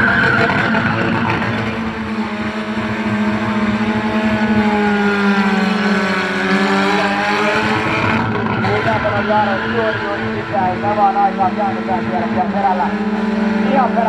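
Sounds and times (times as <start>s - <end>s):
car engines at high revs: 0.0s - 14.0s
tyres spinning on asphalt: 0.0s - 14.0s.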